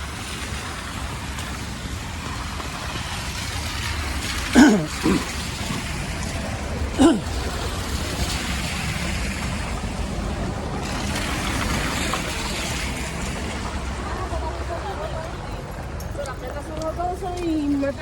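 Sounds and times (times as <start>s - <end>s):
rain on a street: 0.0s - 18.0s.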